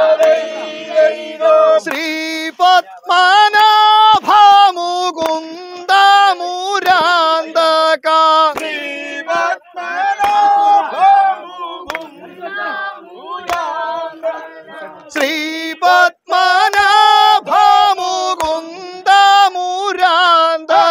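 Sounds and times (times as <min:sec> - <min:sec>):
boat song sung loudly: 0:00.0 - 0:20.9.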